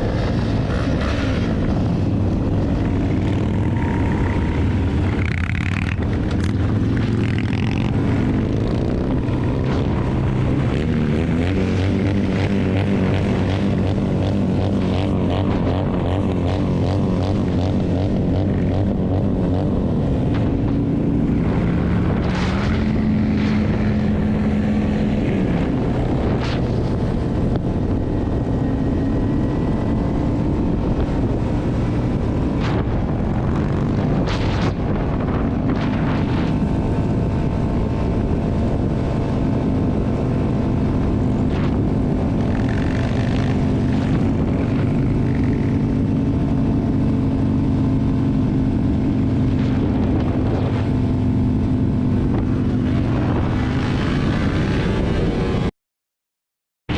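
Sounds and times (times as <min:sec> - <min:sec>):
motorcycle engine running: 0:00.0 - 0:55.4
wind noise on microphone: 0:00.0 - 0:55.7.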